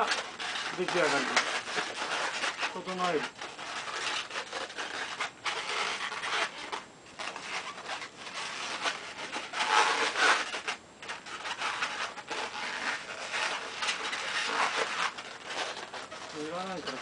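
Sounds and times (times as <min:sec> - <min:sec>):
balloons rubbing and rasping: 0:00.0 - 0:17.0.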